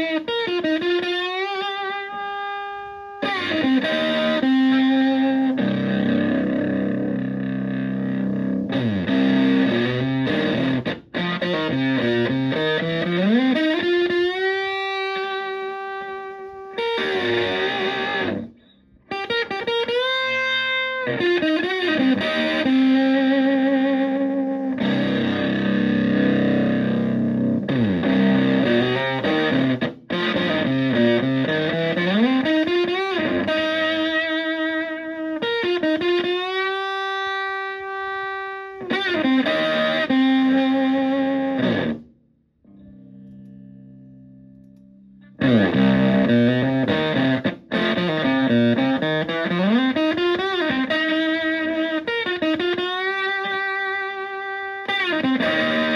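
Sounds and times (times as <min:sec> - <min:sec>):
fuzzy electric guitar lead: 0:00.0 - 0:55.9.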